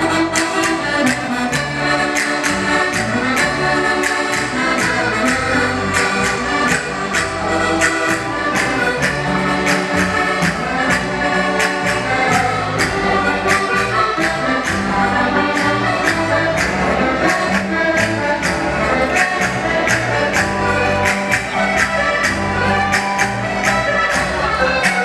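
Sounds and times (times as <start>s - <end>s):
live band playing dance music: 0.0s - 25.0s.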